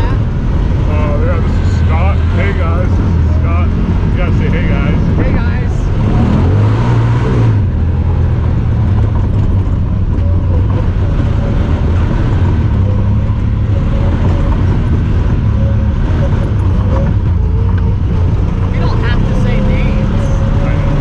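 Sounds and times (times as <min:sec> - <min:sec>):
vehicle engine revving and droning: 0:00.0 - 0:21.0.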